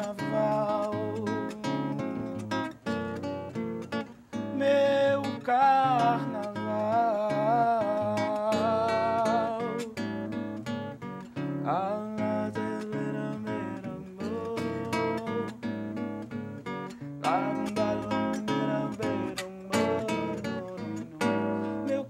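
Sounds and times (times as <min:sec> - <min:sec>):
person singing with vibrato: 0:00.0 - 0:02.8, 0:04.2 - 0:10.4, 0:11.6 - 0:16.0, 0:16.9 - 0:22.0
acoustic guitar strumming: 0:00.0 - 0:22.0.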